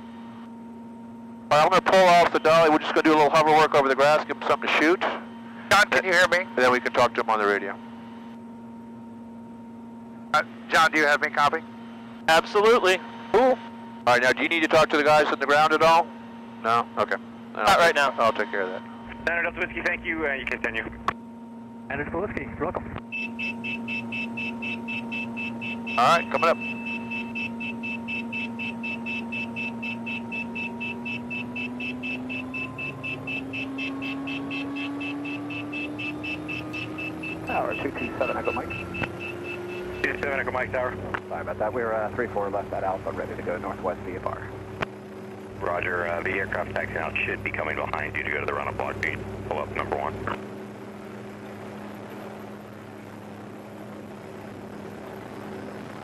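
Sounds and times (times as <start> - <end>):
helicopter engine whine: 0.0 - 56.0
helicopter rotor blade beat: 0.0 - 56.0.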